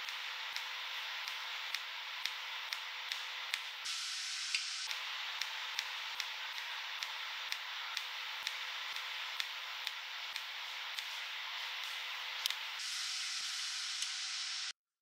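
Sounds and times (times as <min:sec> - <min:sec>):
faint regular clicks: 0:00.0 - 0:03.8, 0:04.5 - 0:12.8
welding arc hissing: 0:00.0 - 0:14.8.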